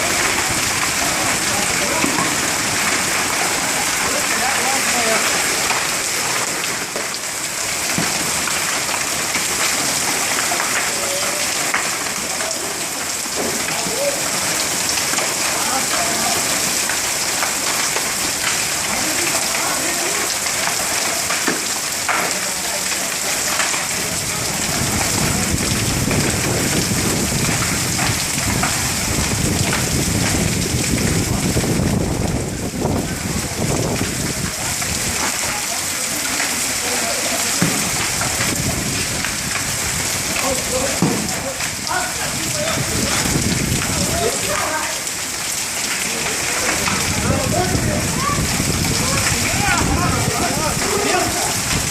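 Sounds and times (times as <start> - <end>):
hailstones striking hard surfaces: 0.0 - 51.9
heavy rain hissing: 0.0 - 51.9.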